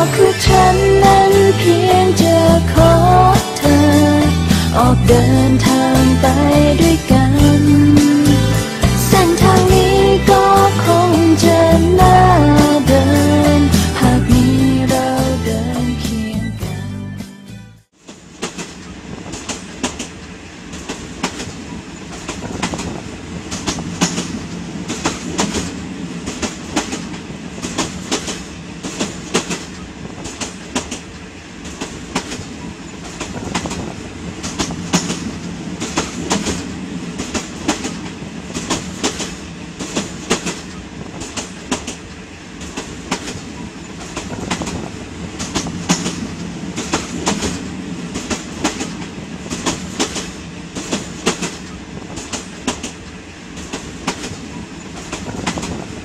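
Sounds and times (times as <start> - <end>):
wheels clacking over rail joints: 0.0 - 15.2, 17.9 - 56.0
train rumble: 0.0 - 16.8, 17.8 - 56.0.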